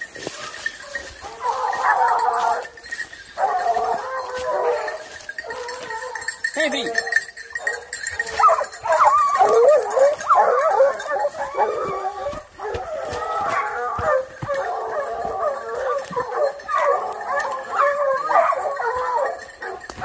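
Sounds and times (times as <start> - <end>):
brush crackling underfoot: 0.0 - 7.1, 8.1 - 20.0
dogs baying and howling: 0.0 - 20.0.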